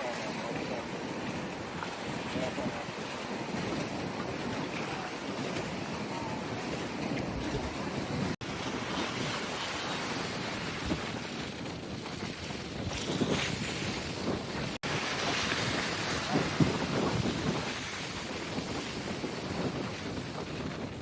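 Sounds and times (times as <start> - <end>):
waves breaking on shore: 0.0 - 21.0
wind buffeting microphone: 0.0 - 21.0.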